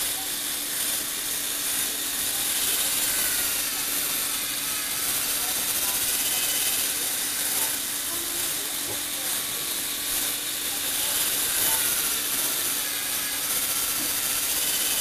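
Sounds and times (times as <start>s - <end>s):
toy electric motor humming: 0.0s - 15.0s.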